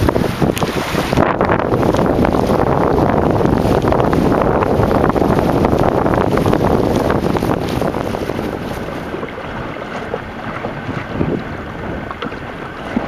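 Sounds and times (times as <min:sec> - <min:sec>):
water splashing against hull: 0:00.0 - 0:13.0
wind buffeting microphone: 0:00.0 - 0:13.0.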